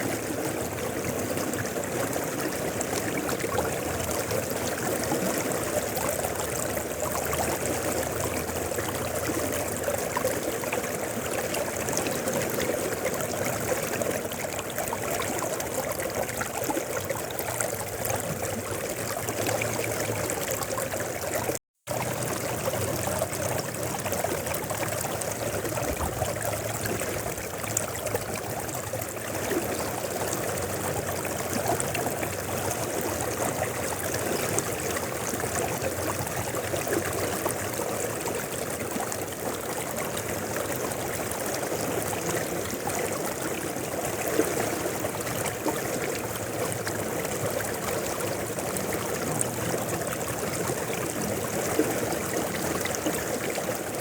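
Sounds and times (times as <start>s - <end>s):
river water over stones: 0.0s - 54.0s.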